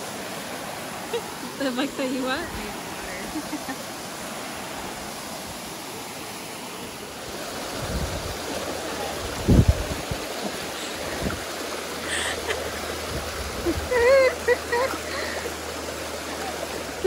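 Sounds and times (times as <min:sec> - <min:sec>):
small waterfall and creek rushing: 0:00.0 - 0:17.0.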